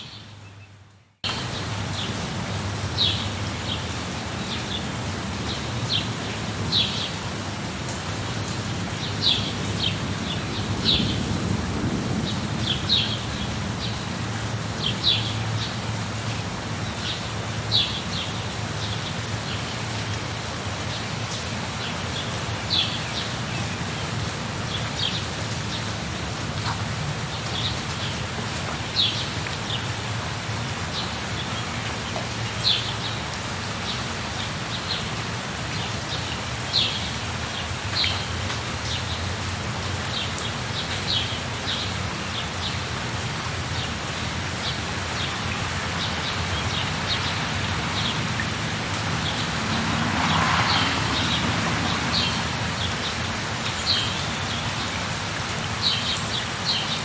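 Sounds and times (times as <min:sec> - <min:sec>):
steady rain: 0:01.2 - 0:57.0.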